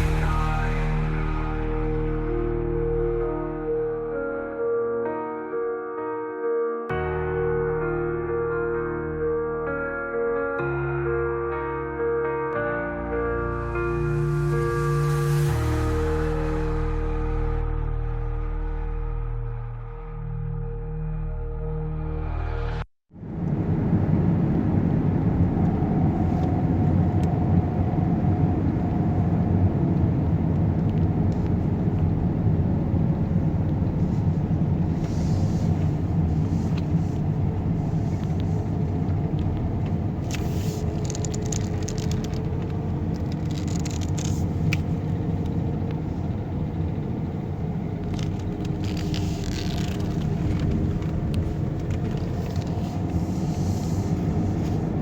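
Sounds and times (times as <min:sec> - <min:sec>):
motor vehicles rumbling: 0:00.0 - 0:04.3, 0:13.3 - 0:55.0.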